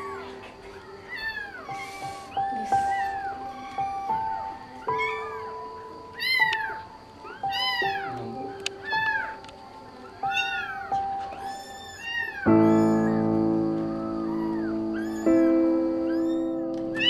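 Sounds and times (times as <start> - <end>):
kittens mewing: 0.0 - 9.4, 10.0 - 17.0
soft background music: 0.0 - 17.0.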